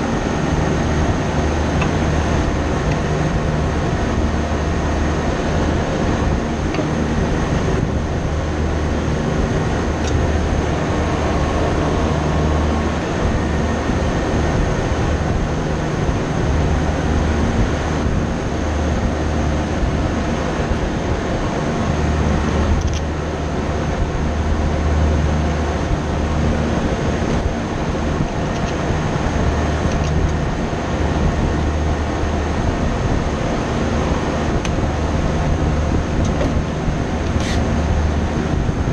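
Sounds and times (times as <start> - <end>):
machinery humming drone: 0.0 - 38.9.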